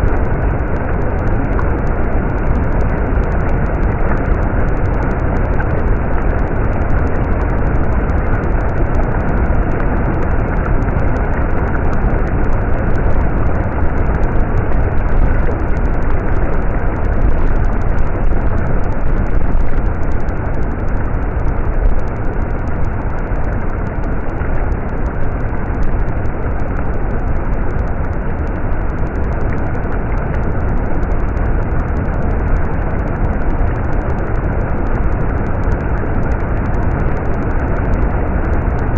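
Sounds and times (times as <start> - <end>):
stream water flowing: 0.0 - 37.3.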